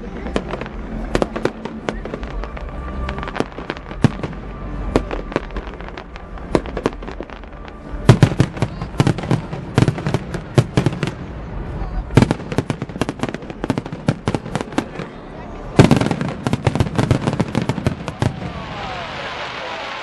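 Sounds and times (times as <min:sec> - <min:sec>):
fireworks bangs and pops: 0:00.0 - 0:20.0.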